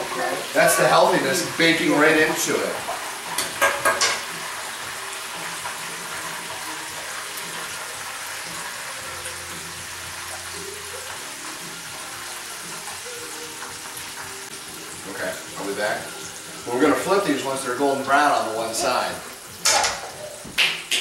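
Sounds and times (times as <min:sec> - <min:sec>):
dough frying in hot oil: 0:00.0 - 0:21.0.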